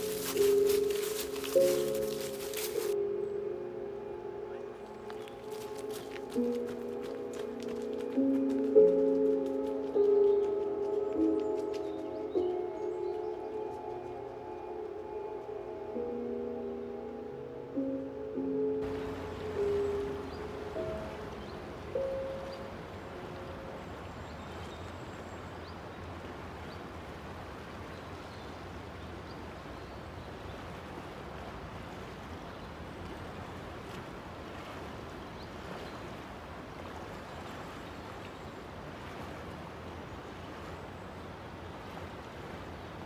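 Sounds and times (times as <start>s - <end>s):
river water rushing: 0.0s - 3.0s, 4.7s - 12.4s, 18.8s - 43.0s.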